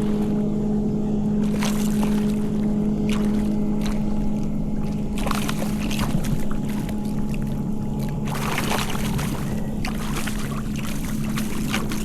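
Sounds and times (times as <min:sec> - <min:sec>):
low hum: 0:00.0 - 0:12.0
wind buffeting microphone: 0:01.3 - 0:12.0
water splashing against kayak: 0:01.4 - 0:12.0.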